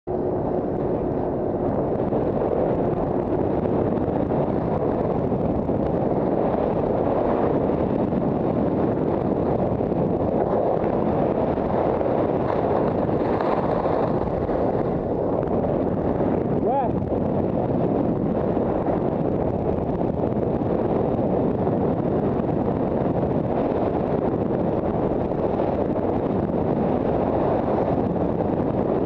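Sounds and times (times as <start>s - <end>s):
wind buffeting microphone: 0.1s - 29.0s.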